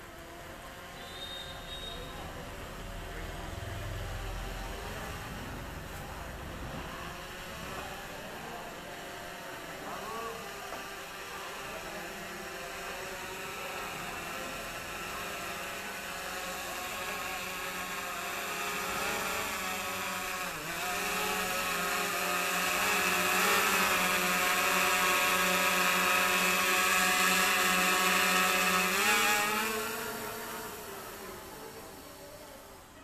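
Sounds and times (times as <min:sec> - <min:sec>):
drone propellers buzzing: 0:00.0 - 0:33.0.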